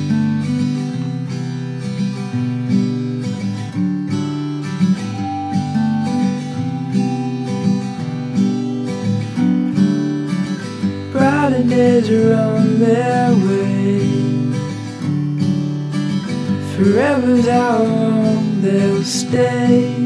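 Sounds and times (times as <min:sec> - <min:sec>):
strummed acoustic guitar music: 0:00.0 - 0:20.0.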